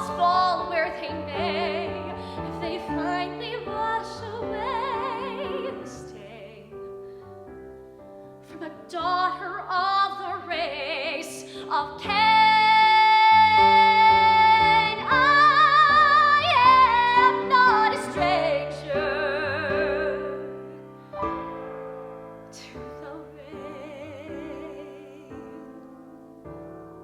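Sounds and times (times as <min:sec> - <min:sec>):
woman singing a ballad: 0:00.0 - 0:06.9, 0:08.4 - 0:20.8, 0:22.5 - 0:26.2
piano chords: 0:00.0 - 0:27.0.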